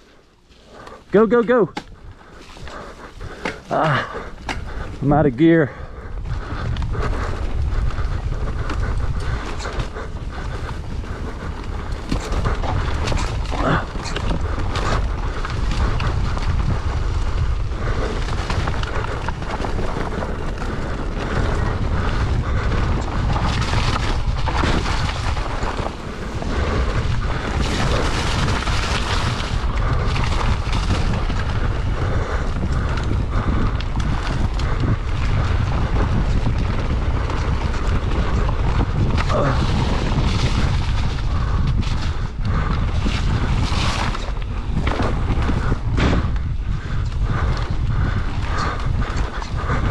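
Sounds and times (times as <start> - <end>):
bike rattling: 0.0 - 49.9
wind buffeting microphone: 0.0 - 49.9
tyres rolling over gravel: 6.5 - 49.9.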